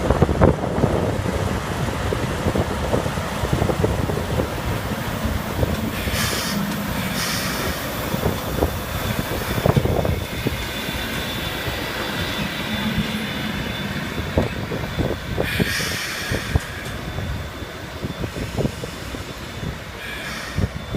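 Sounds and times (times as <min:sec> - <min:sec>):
steam train rumble: 0:00.0 - 0:20.9
wind buffeting microphone: 0:00.0 - 0:20.9
steam hiss: 0:02.5 - 0:20.9.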